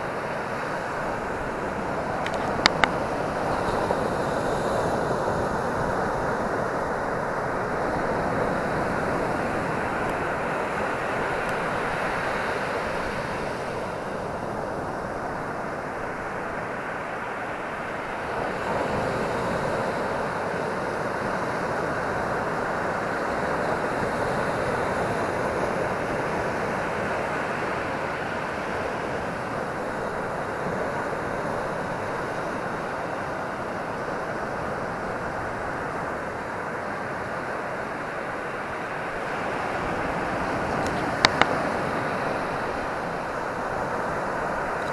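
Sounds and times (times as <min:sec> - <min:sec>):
ocean waves washing up a beach: 0:00.0 - 0:44.9.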